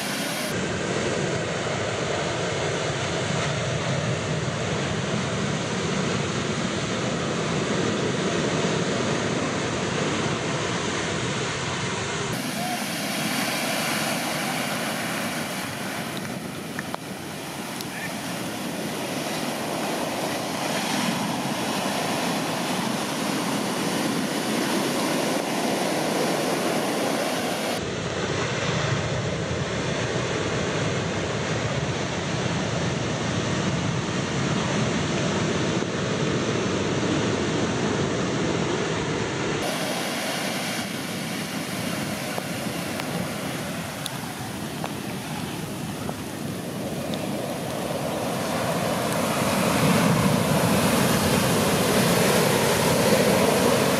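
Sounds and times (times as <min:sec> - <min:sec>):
waves breaking on beach: 0:00.0 - 0:53.9.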